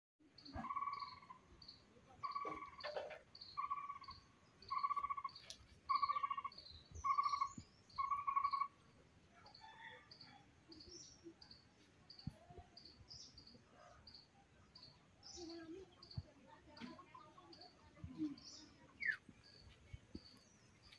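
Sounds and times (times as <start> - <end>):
faint scattered chirps: 0.2 - 20.9.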